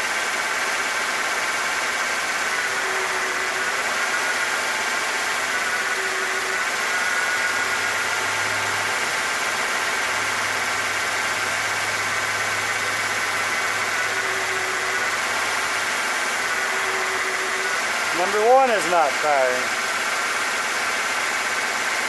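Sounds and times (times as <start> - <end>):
engine idling with a misfire: 0.0 - 22.0.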